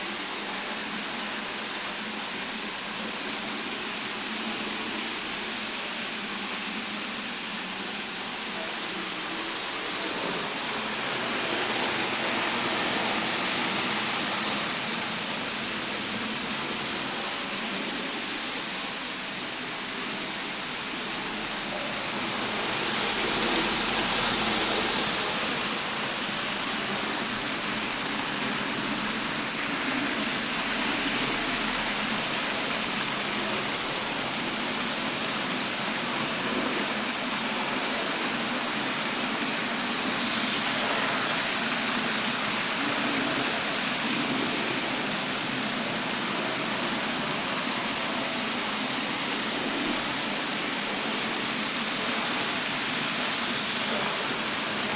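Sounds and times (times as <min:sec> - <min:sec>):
steady hiss: 0:00.0 - 0:54.9.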